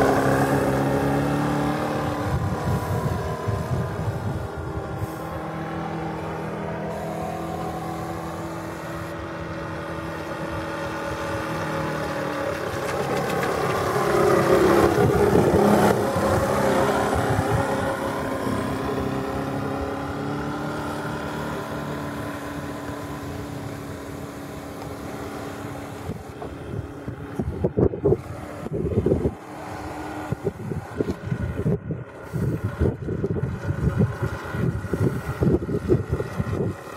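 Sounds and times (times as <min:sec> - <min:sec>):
model boat engine running: 0:00.0 - 0:36.9.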